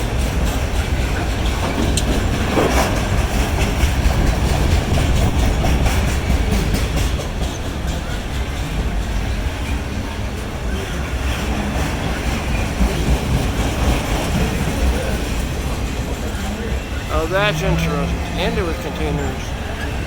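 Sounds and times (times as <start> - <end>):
steel wheels clattering on rails: 0.0 - 17.1
freight train rumbling past: 0.0 - 20.0.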